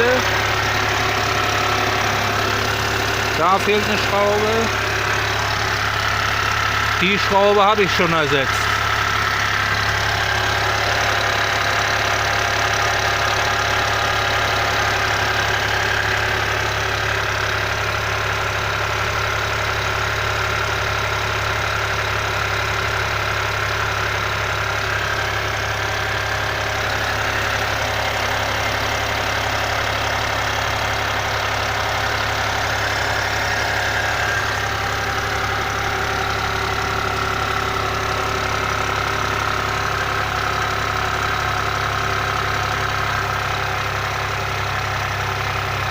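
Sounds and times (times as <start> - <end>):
car engine idling: 0.0 - 45.9
engine clattering rattle: 0.0 - 45.9.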